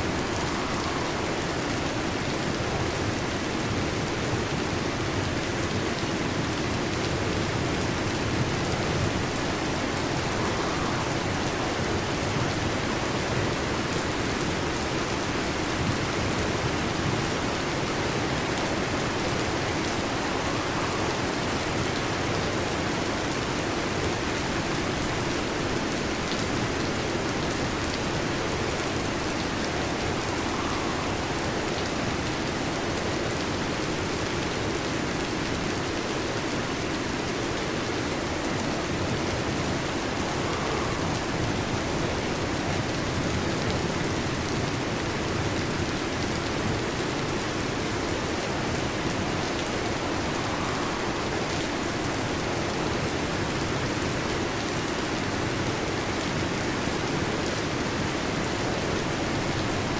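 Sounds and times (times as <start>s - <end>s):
heavy rain on metal roof: 0.0s - 59.9s.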